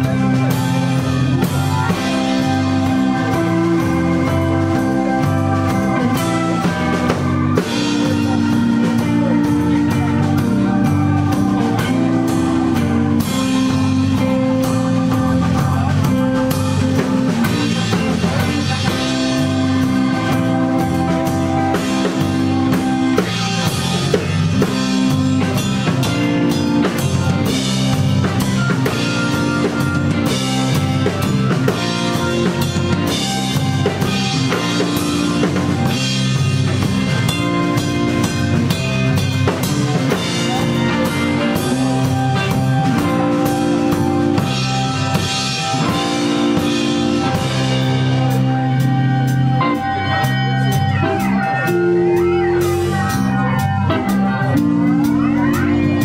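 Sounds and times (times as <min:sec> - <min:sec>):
bass guitar: 0:00.0 - 0:56.0
drum kit beat: 0:00.0 - 0:56.0
electric guitar: 0:00.0 - 0:56.0
keyboard: 0:00.0 - 0:56.0.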